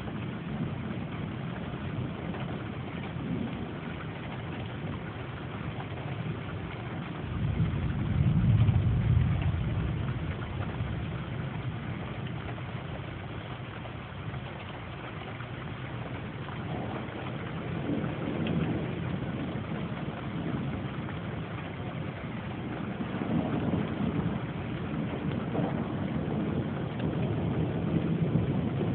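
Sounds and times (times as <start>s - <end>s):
heavy rain hissing: 0.0s - 28.9s
low rumble: 0.0s - 28.9s.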